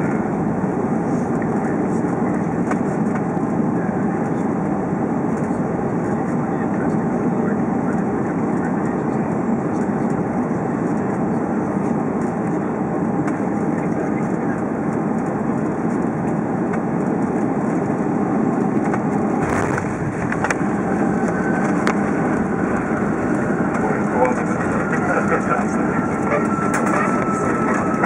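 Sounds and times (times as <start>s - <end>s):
aircraft cabin engine roar: 0.0s - 28.0s.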